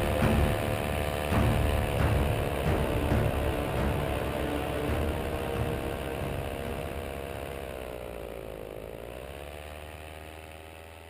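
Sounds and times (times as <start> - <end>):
paramotor engine and propeller: 0.0 - 11.0.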